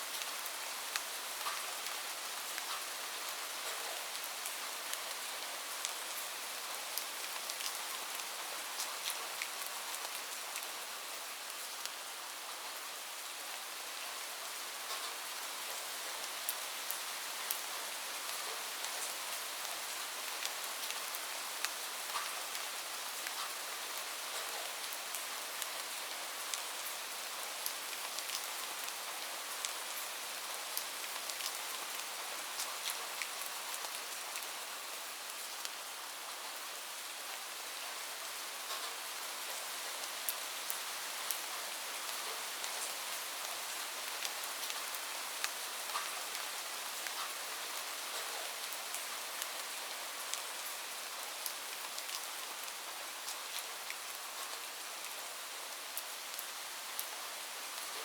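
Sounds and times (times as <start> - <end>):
light rain hiss: 0.0 - 58.0
raindrops ticking on a surface: 0.1 - 10.7, 14.8 - 34.6, 38.6 - 58.0.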